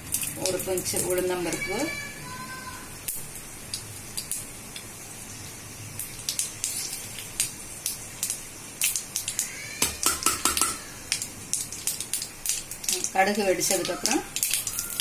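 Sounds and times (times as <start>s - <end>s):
seeds sizzling in hot oil: 0.0s - 15.0s.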